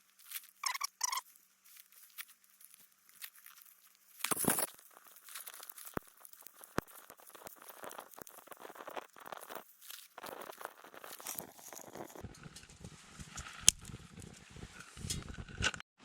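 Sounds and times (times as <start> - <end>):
twig fire crackling: 1.2 - 15.7.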